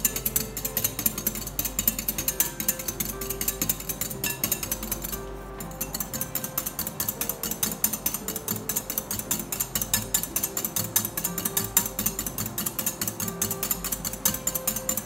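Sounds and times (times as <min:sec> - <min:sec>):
beater clicking against bowl: 0:00.0 - 0:15.0.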